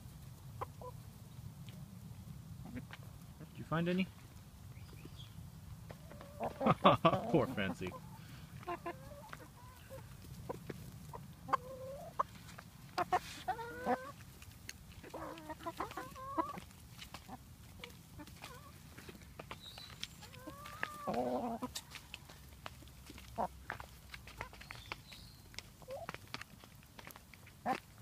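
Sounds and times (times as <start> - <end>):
hens clucking: 0.4 - 1.0, 2.6 - 4.1, 4.9 - 28.0.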